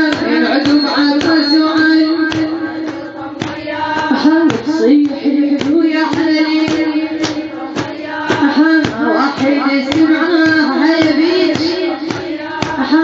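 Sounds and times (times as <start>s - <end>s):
steady beat: 0.0s - 13.0s
woman chanting a lament: 0.0s - 13.0s.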